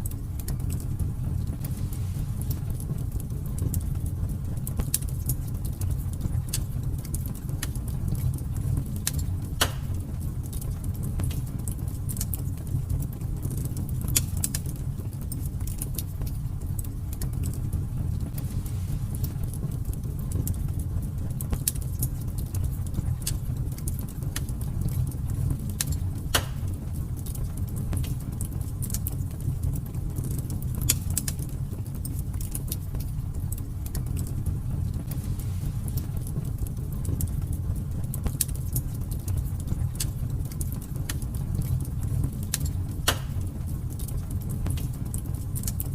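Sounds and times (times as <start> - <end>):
rumble of fire flames: 0.0 - 45.9
wood fire crackling and popping: 0.0 - 45.9.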